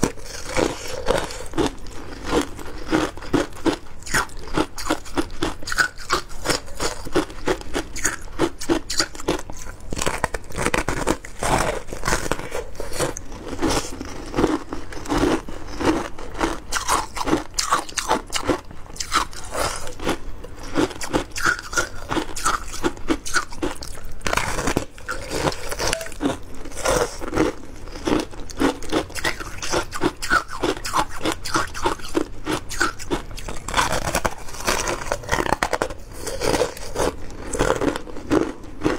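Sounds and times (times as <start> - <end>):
crunching and chewing shaved ice: 0.0 - 38.9.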